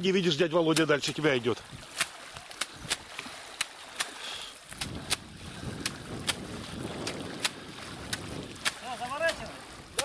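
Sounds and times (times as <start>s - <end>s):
water sloshing and splashing: 0.0s - 10.0s
water swishing: 0.0s - 10.0s
sharp light splashes: 0.7s - 10.0s.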